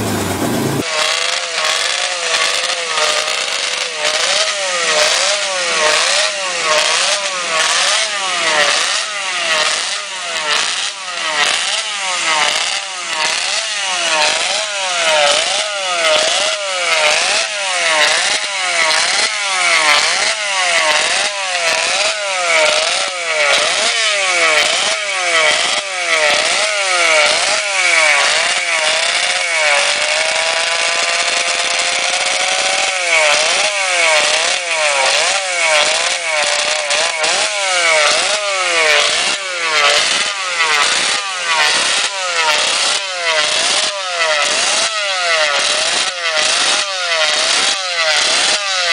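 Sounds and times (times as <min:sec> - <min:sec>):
two-stroke engine revving: 0:00.0 - 0:48.9.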